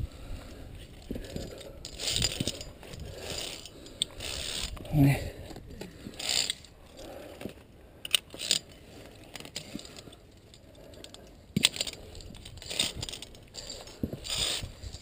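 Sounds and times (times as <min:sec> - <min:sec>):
carabiners clinking on steel cable: 0:00.8 - 0:15.0.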